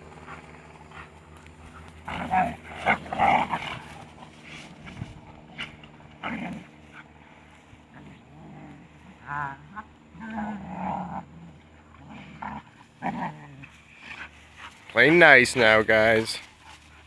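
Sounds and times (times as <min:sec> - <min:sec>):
dogs snarling and growling: 0:00.0 - 0:17.0.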